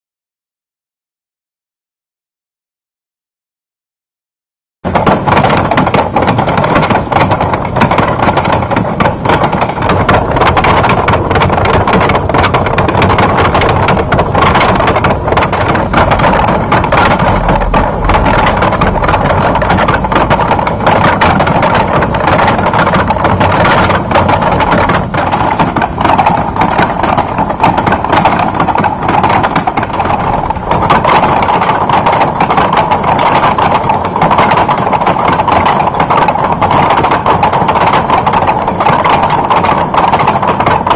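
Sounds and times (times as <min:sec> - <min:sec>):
hand-cranked machine clattering: 0:04.9 - 0:40.9.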